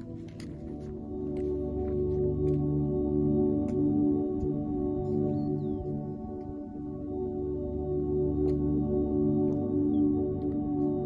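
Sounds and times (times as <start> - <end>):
soft held chords music: 0.0 - 11.0.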